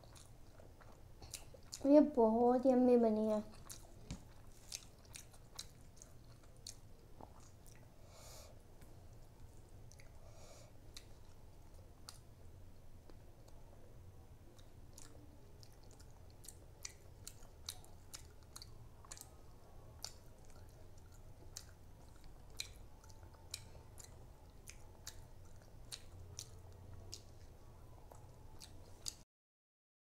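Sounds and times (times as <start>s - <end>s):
close chewing with wet mouth clicks: 0.0s - 2.0s, 3.4s - 8.0s, 8.8s - 12.3s, 14.5s - 29.2s
faint low hum: 0.0s - 29.2s.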